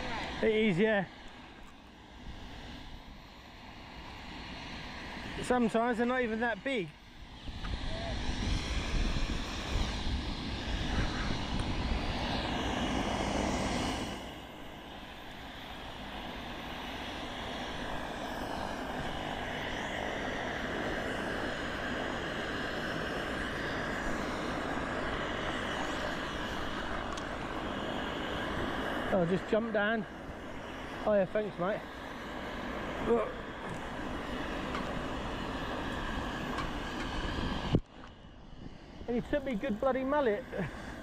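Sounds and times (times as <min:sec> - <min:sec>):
aircraft engine roar: 0:00.0 - 0:41.0.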